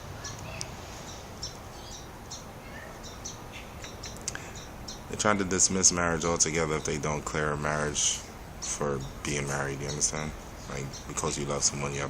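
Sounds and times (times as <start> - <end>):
birds chirping: 0.0 - 12.0
steady background hiss: 0.0 - 12.0.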